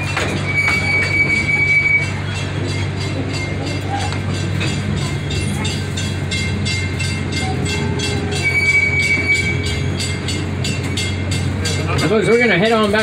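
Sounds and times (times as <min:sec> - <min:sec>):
tour train low drone: 0:00.0 - 0:13.0.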